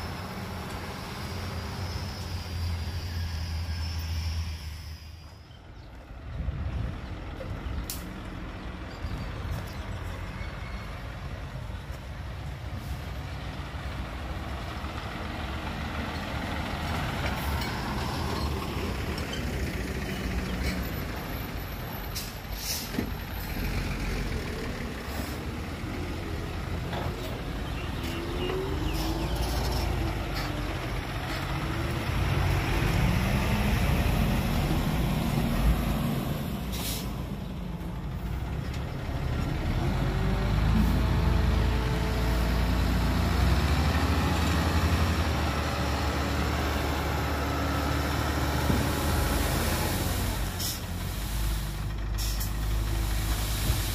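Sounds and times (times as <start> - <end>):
diesel truck engines driving by: 0.0 - 53.9.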